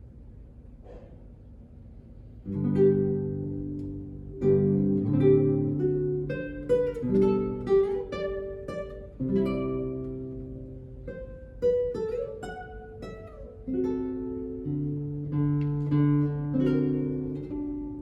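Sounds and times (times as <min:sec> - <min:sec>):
classical guitar playing: 0:02.4 - 0:18.0.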